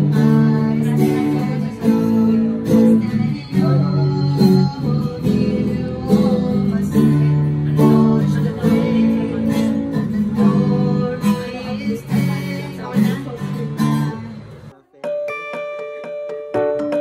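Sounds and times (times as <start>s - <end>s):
acoustic guitar strumming: 0.0s - 17.0s
second guitar playing: 0.0s - 17.0s.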